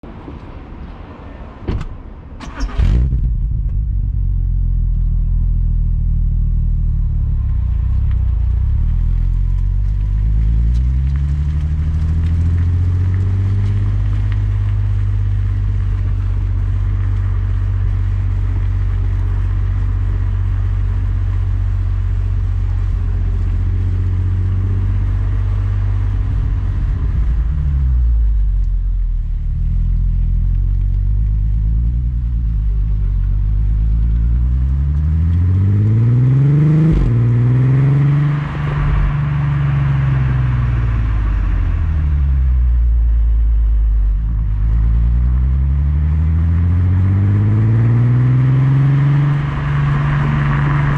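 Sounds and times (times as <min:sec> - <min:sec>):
car engine starting and idling: 0:01.3 - 0:50.9
car engine revving: 0:02.5 - 0:50.9.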